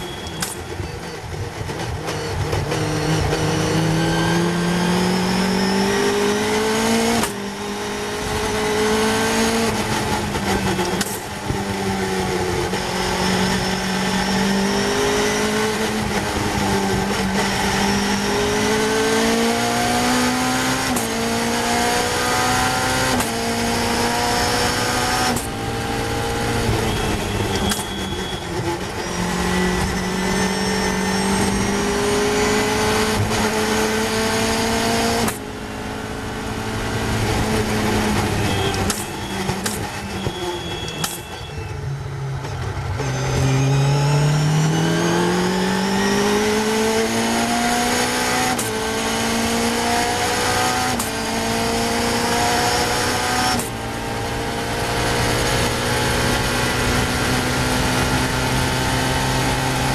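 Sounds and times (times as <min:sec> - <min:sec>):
racing car engine revving: 0:00.0 - 0:41.2, 0:42.4 - 0:59.9.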